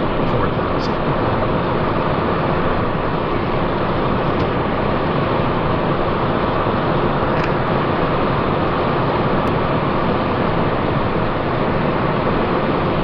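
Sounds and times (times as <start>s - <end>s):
airflow rush in cockpit: 0.0s - 13.0s
jet engine noise: 0.0s - 13.0s.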